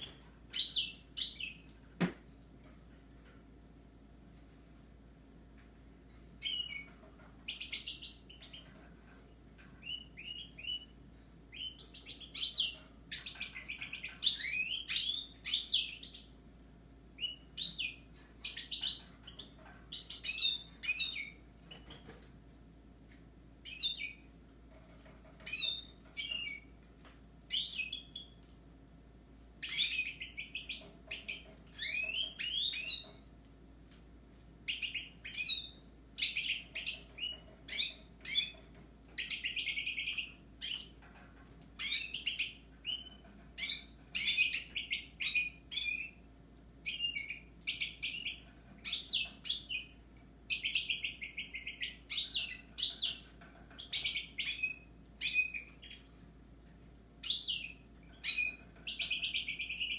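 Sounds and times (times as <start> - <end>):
caged birds singing: 0.0 - 59.9.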